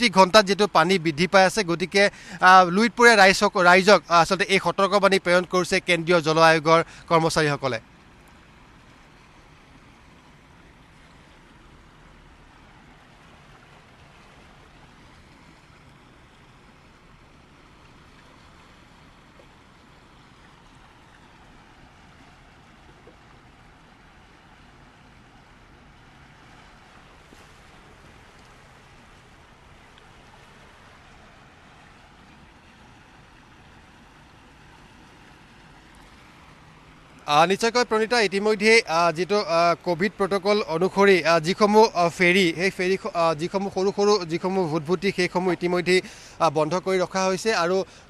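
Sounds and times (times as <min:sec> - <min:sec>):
faint outdoor rushing noise: 0:00.0 - 0:48.0.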